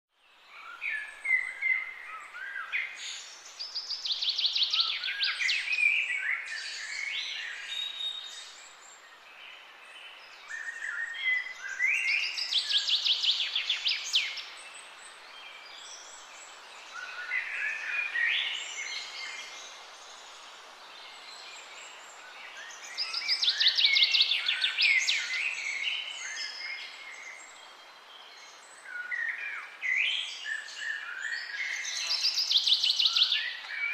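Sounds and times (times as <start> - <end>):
background hiss: 0.2 - 33.9
songbird singing with trills: 0.4 - 20.3, 21.0 - 33.9.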